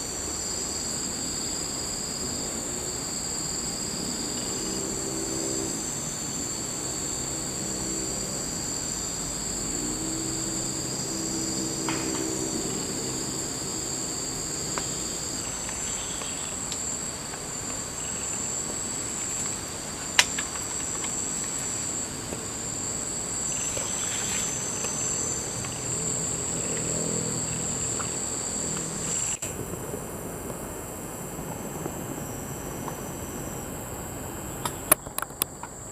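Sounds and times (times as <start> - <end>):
low hum: 0.0 - 34.6
insects buzzing: 0.0 - 35.9.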